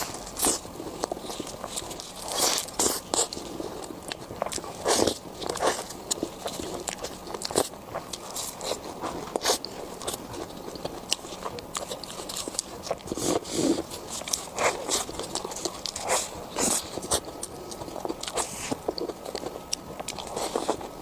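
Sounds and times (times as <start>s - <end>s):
crispy food being chewed: 0.0s - 21.0s.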